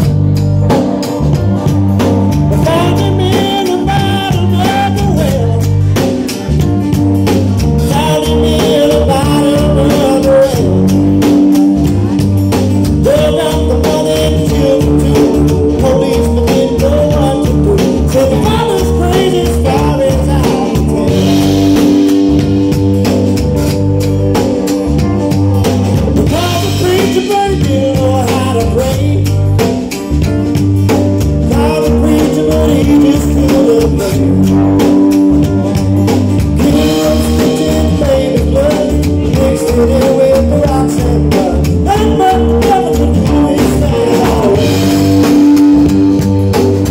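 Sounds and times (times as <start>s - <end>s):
drums steady beat: 0.0s - 46.9s
keyboards: 0.0s - 46.9s
live band playing: 0.0s - 46.9s.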